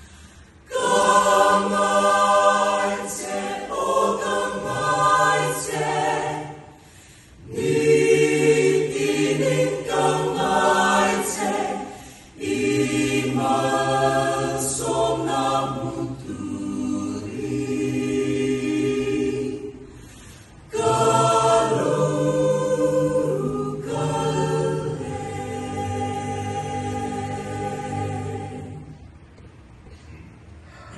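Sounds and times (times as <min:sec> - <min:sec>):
mixed choir singing a cappella: 0:00.0 - 0:29.3.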